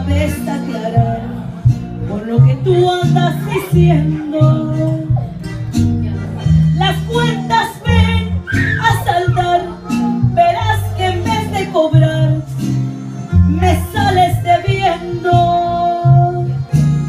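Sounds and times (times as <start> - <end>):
woman singing into a microphone: 0.0 - 5.3, 6.7 - 12.8, 13.5 - 17.0
recorded backing track: 0.0 - 17.0.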